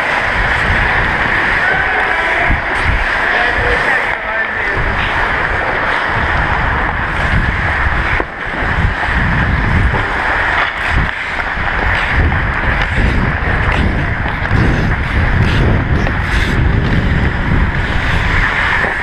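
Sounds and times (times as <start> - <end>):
skate blades scraping ice: 0.0 - 19.0
wind buffeting microphone: 0.0 - 19.0.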